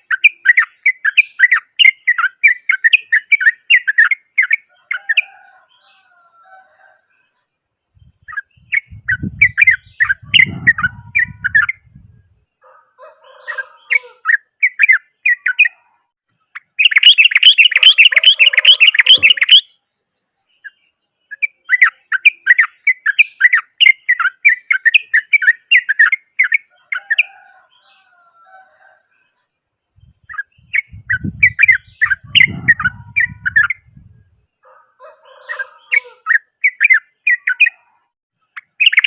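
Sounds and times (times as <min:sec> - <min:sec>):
bird harsh chattering song: 0:00.0 - 0:06.2, 0:07.2 - 0:28.2, 0:29.1 - 0:34.2, 0:35.2 - 0:39.0.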